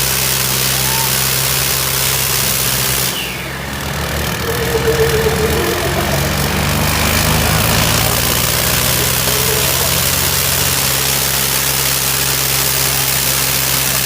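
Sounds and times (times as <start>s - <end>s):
diesel tractor engine running: 1.7s - 13.4s.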